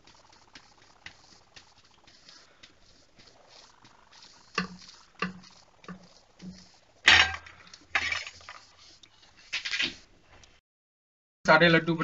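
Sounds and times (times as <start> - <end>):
spatula scraping a pan: 0.0 - 10.0.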